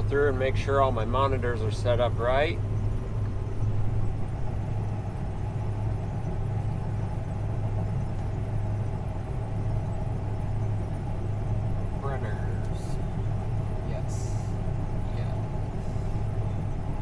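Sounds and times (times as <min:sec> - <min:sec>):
combine harvester low drone: 0:00.0 - 0:17.0
faint steady whine: 0:00.0 - 0:17.0.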